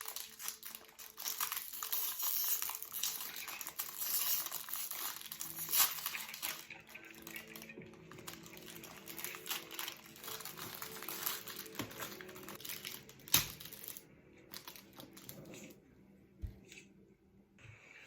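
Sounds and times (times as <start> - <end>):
crinkling and crackling by hand: 0.0 - 15.9.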